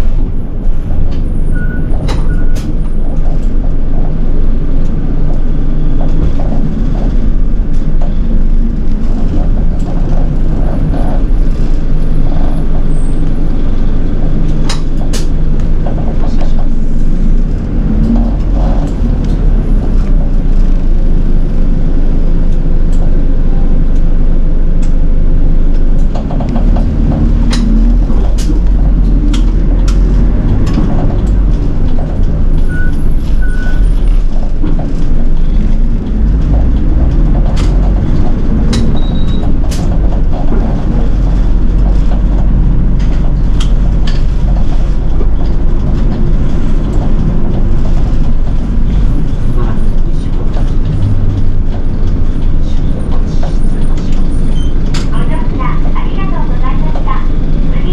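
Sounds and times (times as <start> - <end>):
bus body rattling: 0.0 - 57.9
bus diesel engine rumbling: 0.0 - 57.9.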